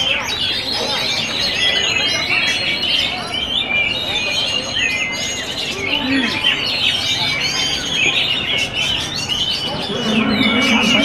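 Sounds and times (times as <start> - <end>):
songbirds singing in chorus: 0.0 - 11.0.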